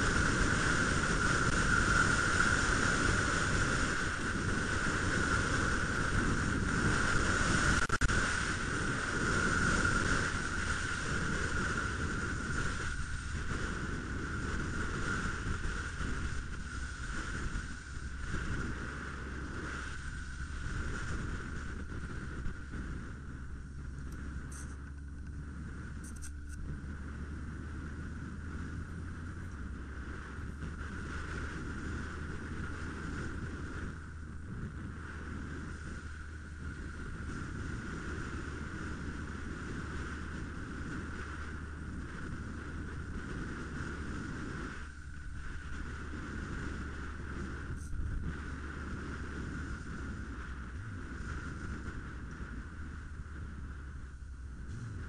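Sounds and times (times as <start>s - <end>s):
deep hum: 0.0s - 55.0s
muffled motorcycle engine: 0.0s - 55.0s
wind noise: 0.0s - 55.0s.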